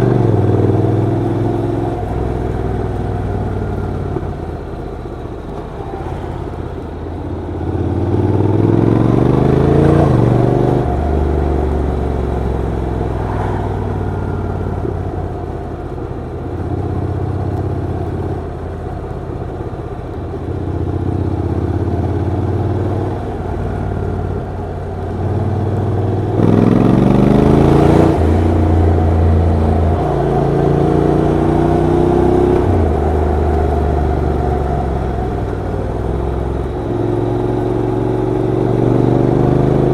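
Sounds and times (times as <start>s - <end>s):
motorcycle engine revving: 0.0s - 18.6s, 20.4s - 39.9s.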